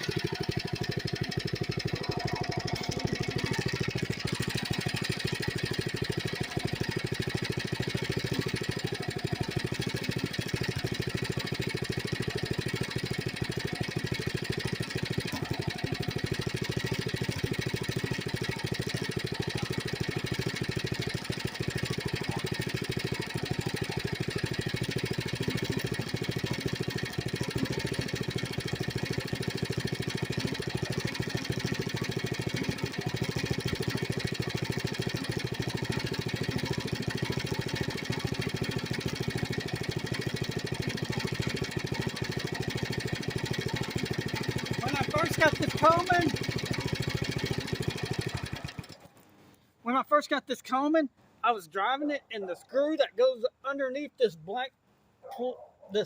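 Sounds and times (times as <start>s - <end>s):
small engine running: 0.0s - 49.2s.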